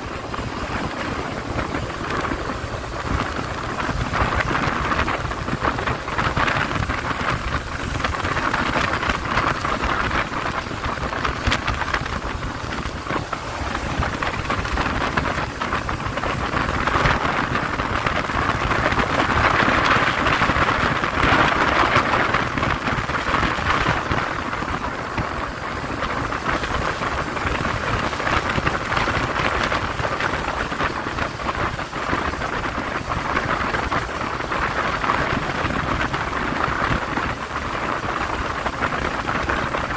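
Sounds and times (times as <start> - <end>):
motorcycle engine and road noise: 0.0 - 39.9
wind buffeting microphone: 0.0 - 39.9.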